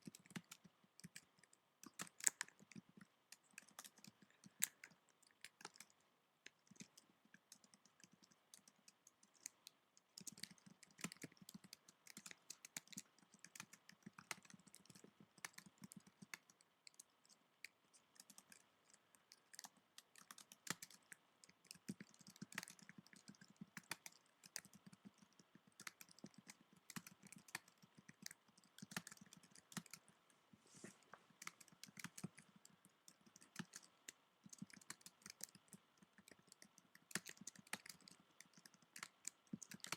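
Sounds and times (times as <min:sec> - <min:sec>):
typing on computer keyboard: 0:00.0 - 0:30.1, 0:31.3 - 0:39.9.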